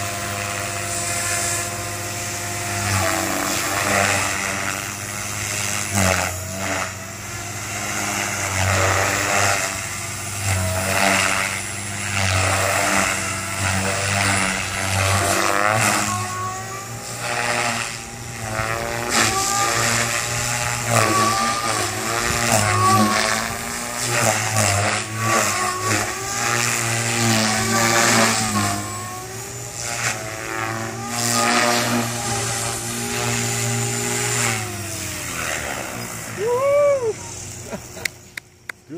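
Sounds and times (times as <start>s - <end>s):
rc helicopter humming and whining: 0.0s - 38.9s.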